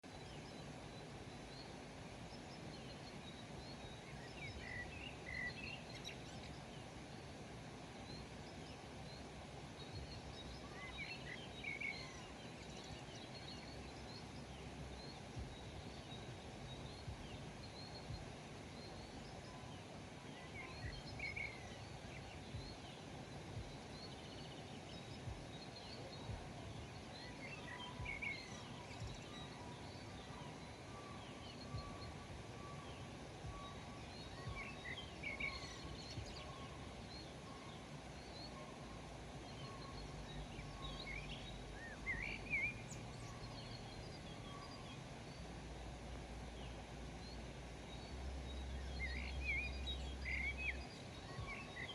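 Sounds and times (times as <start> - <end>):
steady background hiss: 0.0 - 51.9
faint high bird chirps: 0.1 - 51.9.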